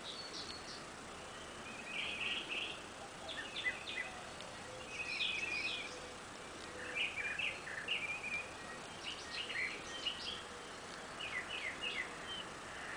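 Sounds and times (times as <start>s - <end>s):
birds chirping: 0.0s - 12.9s
faint steady hiss: 0.0s - 12.9s.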